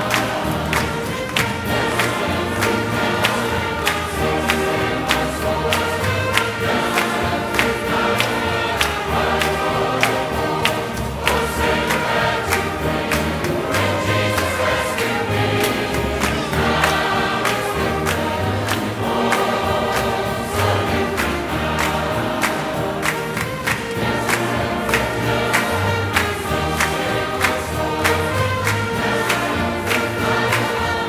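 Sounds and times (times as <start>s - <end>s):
church choir singing: 0.0s - 31.0s.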